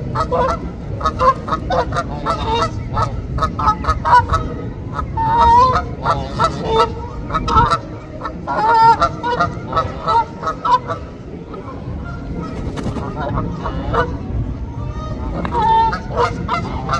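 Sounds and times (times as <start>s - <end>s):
geese honking: 0.0s - 16.9s
steady low rumble: 0.0s - 16.9s.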